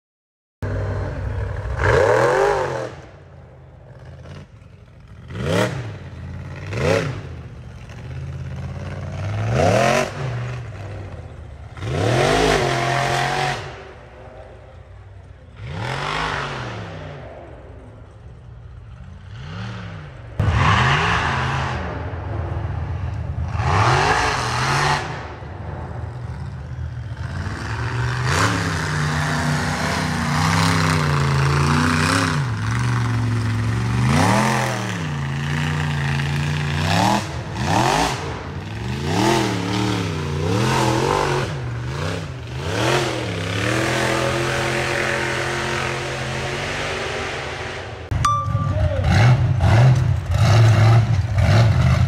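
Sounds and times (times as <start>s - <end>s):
buggy engine revving: 0.6s - 48.2s, 48.8s - 52.0s.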